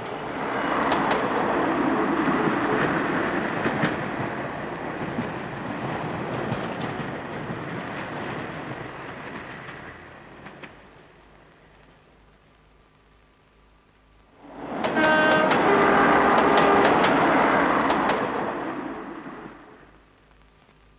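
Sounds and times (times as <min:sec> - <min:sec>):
railcar running on track: 0:00.0 - 0:12.0, 0:14.4 - 0:20.0.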